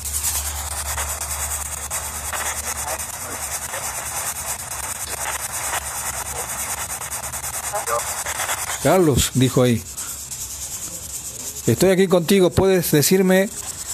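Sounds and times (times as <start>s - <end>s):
steady high hiss: 0.0s - 13.9s.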